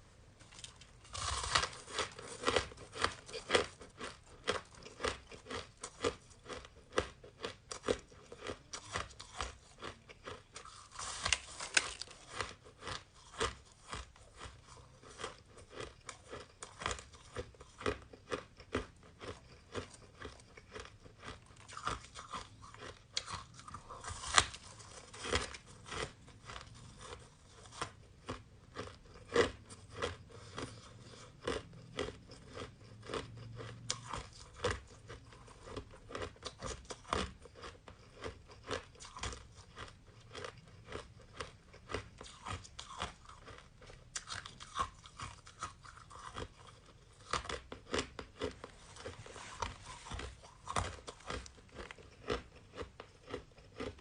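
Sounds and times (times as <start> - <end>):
chewing crunchy shaved ice: 0.4 - 54.0.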